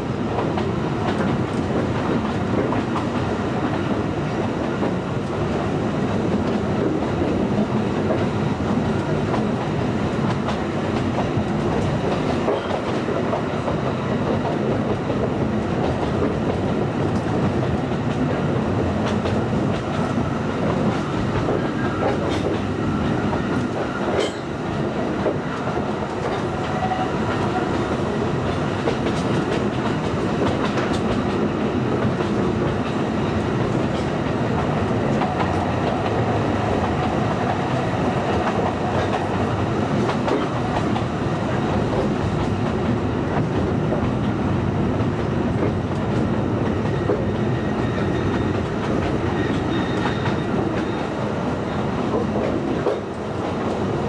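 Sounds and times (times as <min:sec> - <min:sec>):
train wheels rattling over track: 0:00.0 - 0:54.0.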